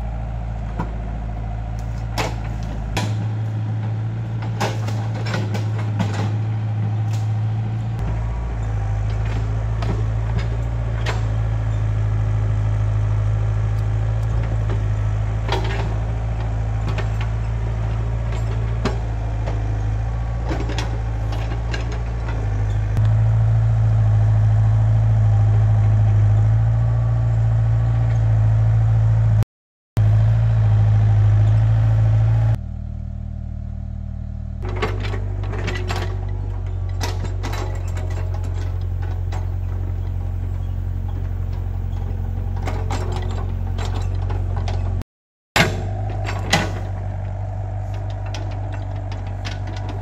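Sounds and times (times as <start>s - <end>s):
excavator diesel engine running: 0.0s - 29.4s, 30.0s - 45.0s, 45.6s - 50.0s.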